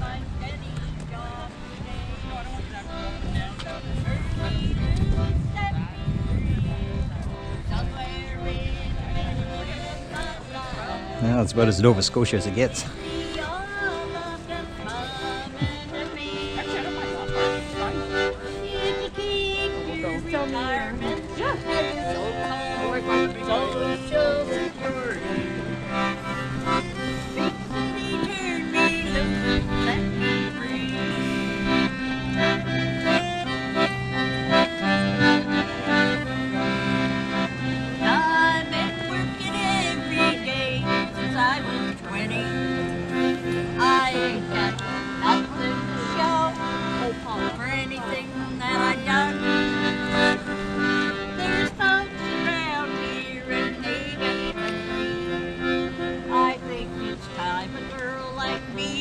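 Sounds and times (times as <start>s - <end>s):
accordion playing: 0.0s - 59.0s
voices: 0.0s - 59.0s.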